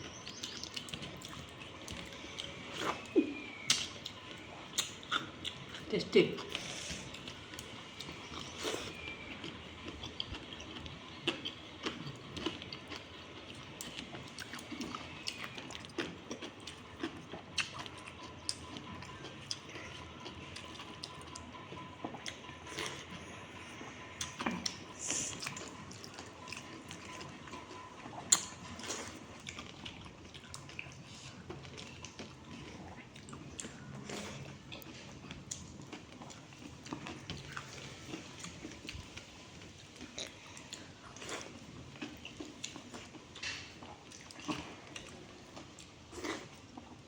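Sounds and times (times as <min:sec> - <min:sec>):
small eating clicks: 0:00.0 - 0:47.0
wet eating squelches: 0:00.0 - 0:47.0.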